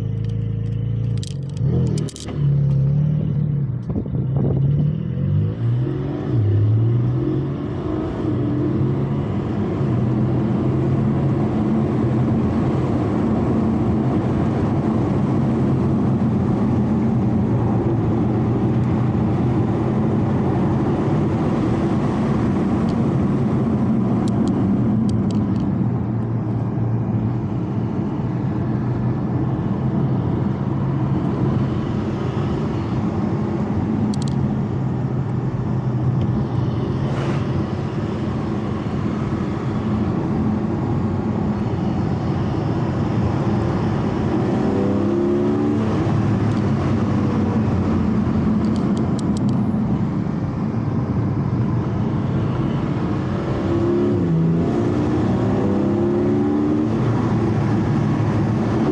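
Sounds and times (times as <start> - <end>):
car engine cruising: 0.0 - 58.9
tyre and road noise: 0.0 - 58.9.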